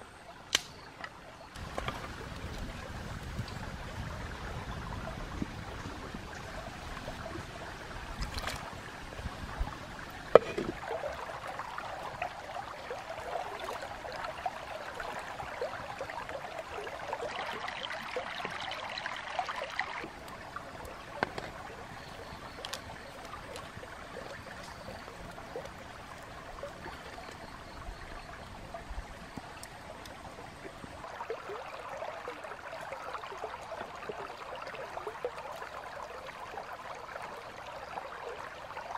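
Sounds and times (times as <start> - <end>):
stream trickling: 0.0 - 38.9.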